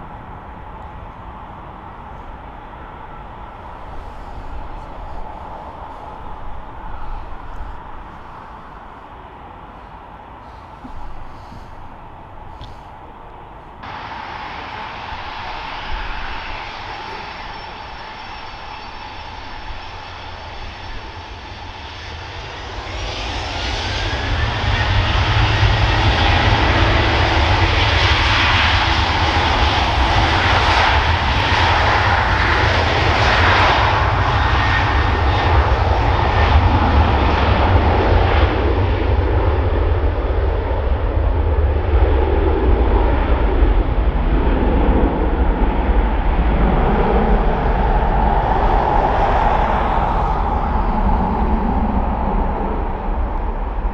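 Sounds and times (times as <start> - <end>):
airliner engines whining: 0.0 - 53.9
wind buffeting microphone: 0.0 - 53.9.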